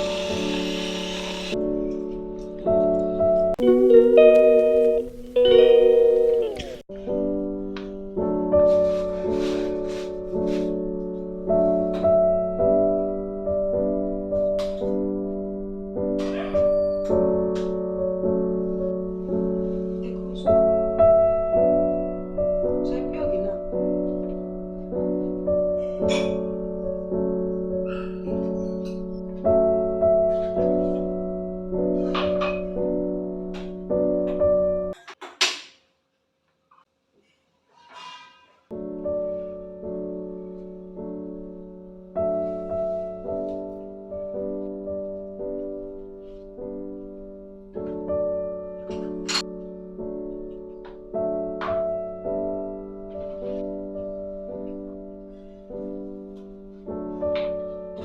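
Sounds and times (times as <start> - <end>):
soft solo piano: 1.5 - 35.0, 38.7 - 58.0.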